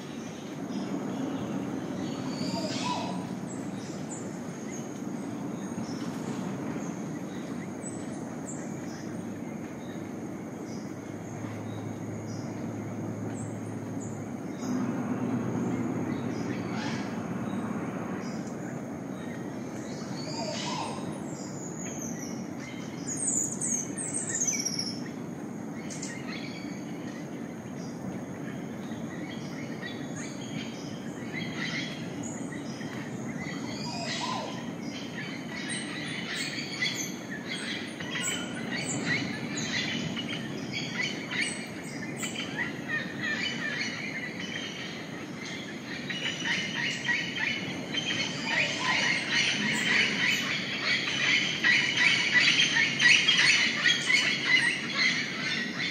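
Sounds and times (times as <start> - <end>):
birds chirping and calling: 0.1 - 14.9, 15.6 - 17.6, 18.2 - 28.0, 28.7 - 55.9.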